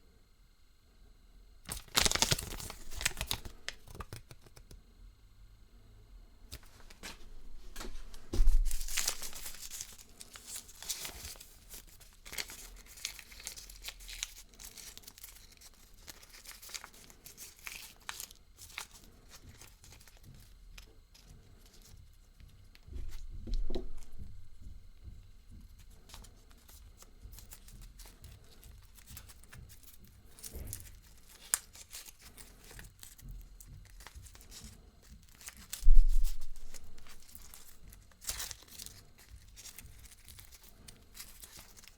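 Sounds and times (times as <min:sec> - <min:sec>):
foil wrapping crinkling and tearing: 0:01.7 - 0:04.7, 0:06.5 - 0:21.9, 0:26.1 - 0:41.9.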